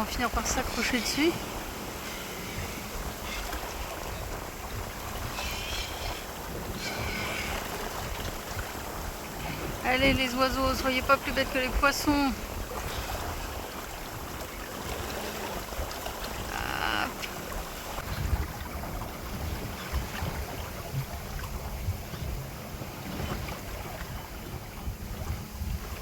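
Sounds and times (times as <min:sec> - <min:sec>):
wash of water: 0:00.0 - 0:26.0
wind buffeting microphone: 0:00.0 - 0:26.0.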